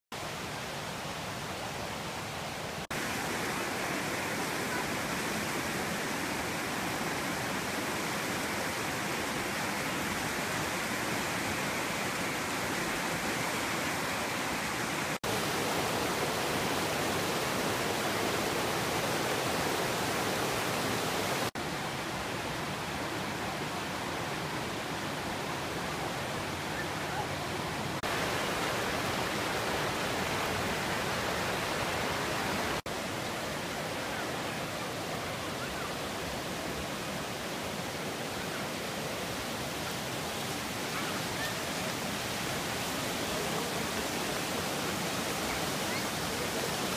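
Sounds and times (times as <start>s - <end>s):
floodwater rushing: 0.2s - 46.9s.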